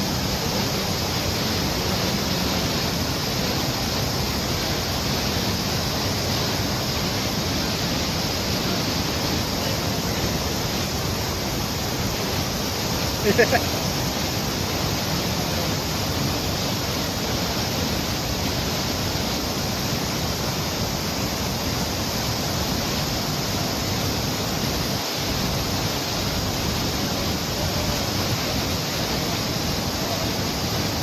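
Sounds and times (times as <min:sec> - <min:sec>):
rocky stream rushing: 0:00.0 - 0:31.0.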